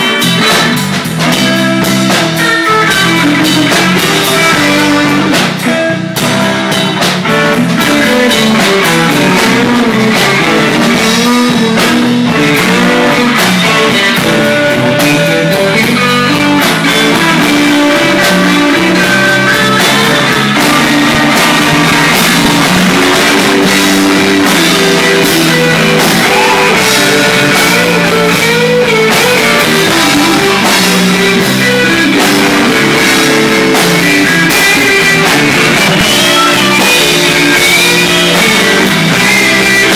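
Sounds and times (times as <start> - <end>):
blues-rock band playing: 0.0 - 39.9
electric guitar lines: 0.0 - 39.9.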